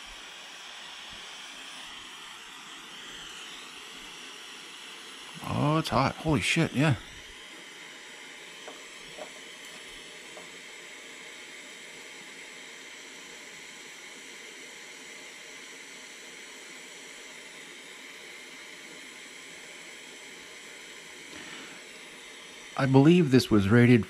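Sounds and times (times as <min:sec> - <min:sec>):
butane soldering iron hissing: 0:00.0 - 0:24.0.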